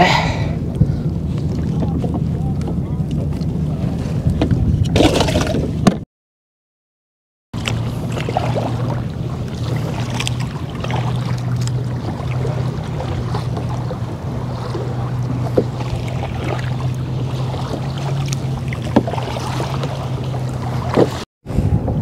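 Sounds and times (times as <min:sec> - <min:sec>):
water lapping at hull: 0:00.0 - 0:06.0, 0:07.6 - 0:22.0
paddle strokes splashing: 0:00.8 - 0:06.0, 0:07.6 - 0:21.2.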